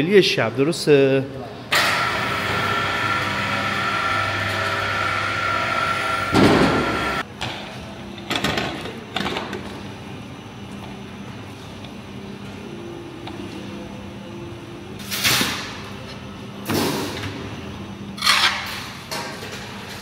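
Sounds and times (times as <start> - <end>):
steady hum: 1.4 - 19.7.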